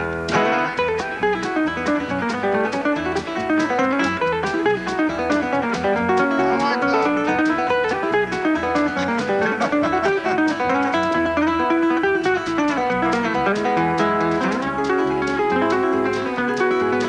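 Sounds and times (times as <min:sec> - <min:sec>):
plucked guitar background music: 0:00.0 - 0:17.0.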